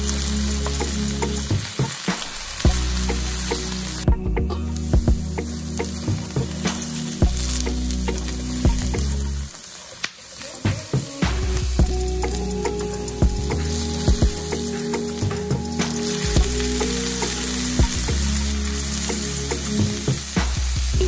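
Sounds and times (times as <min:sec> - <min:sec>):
potatoes sizzling in hot oil: 0:00.0 - 0:04.1, 0:04.7 - 0:21.0.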